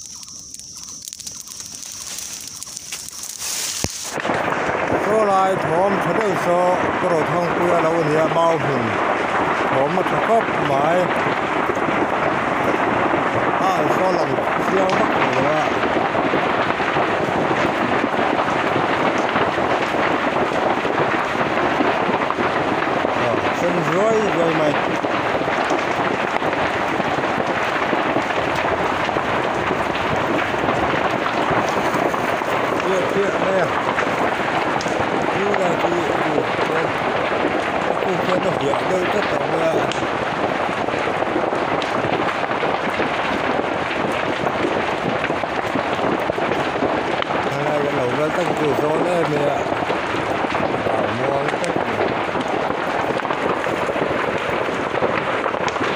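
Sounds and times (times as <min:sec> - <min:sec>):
fire crackling and popping: 0:00.0 - 0:55.9
rush of flame: 0:00.0 - 0:55.9.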